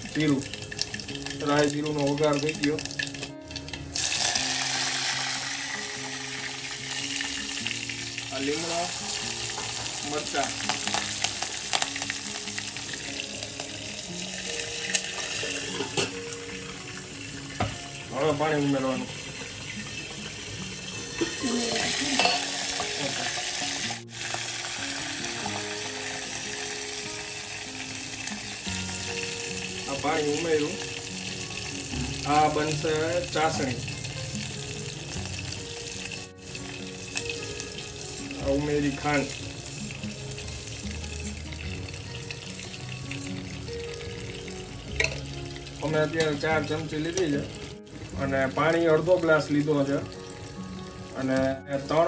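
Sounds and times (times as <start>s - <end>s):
chillies sizzling in hot oil: 0.0s - 52.0s.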